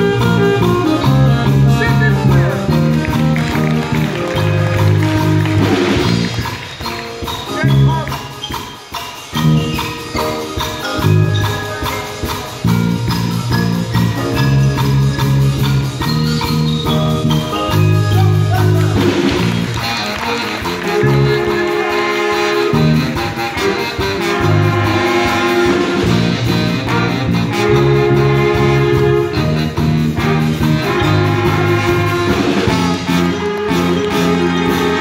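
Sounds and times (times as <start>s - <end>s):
jazz big band playing: 0.0s - 35.0s.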